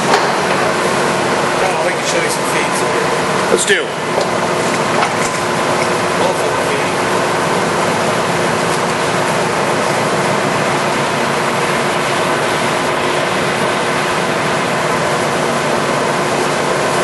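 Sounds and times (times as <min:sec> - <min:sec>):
lathe running: 0:00.0 - 0:17.0.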